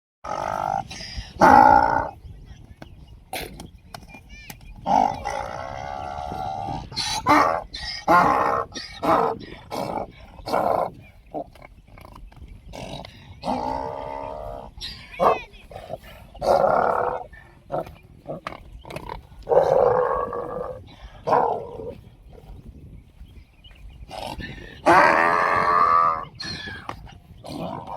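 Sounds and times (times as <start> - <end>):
donkeys braying: 0.2 - 2.2, 3.2 - 27.9.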